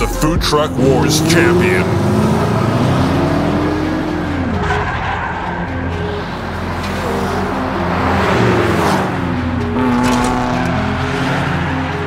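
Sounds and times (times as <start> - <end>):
race car engine: 0.5 - 12.0.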